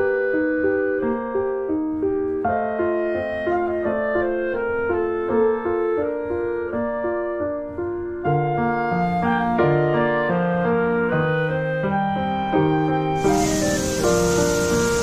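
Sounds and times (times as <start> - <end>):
calm piano music: 0.0 - 15.0.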